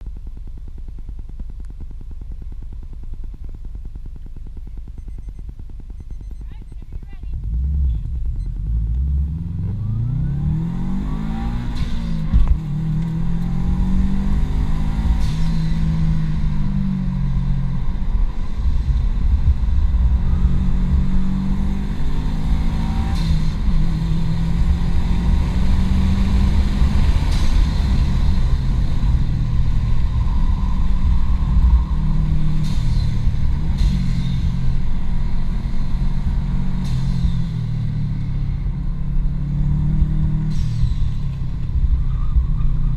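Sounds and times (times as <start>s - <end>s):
car engine accelerating hard: 2.5s - 42.9s.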